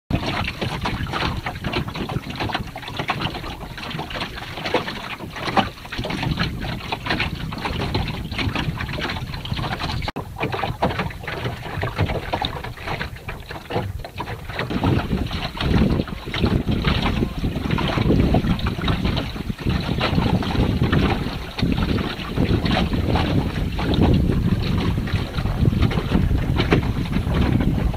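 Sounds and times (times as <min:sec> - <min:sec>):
water splashing against wooden hull: 0:00.1 - 0:27.9
wind buffeting microphone: 0:00.1 - 0:27.9.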